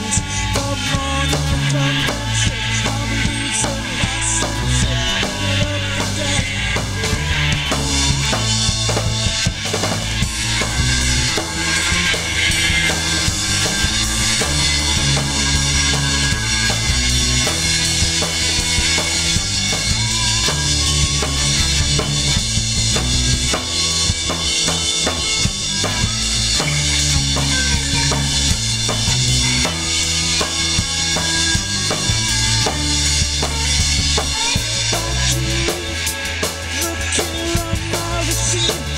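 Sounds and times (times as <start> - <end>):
bass guitar notes: 0.0 - 38.9
drum kit beat: 0.0 - 38.9
electric guitar: 0.0 - 38.9
keyboards: 0.0 - 38.9
rock band playing live: 0.0 - 38.9.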